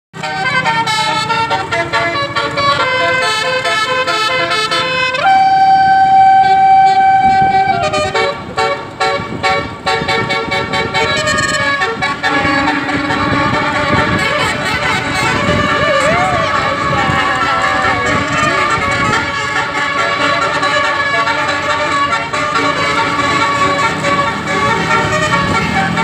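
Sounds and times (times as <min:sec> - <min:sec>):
musical air horns playing tune: 0:00.2 - 0:26.0.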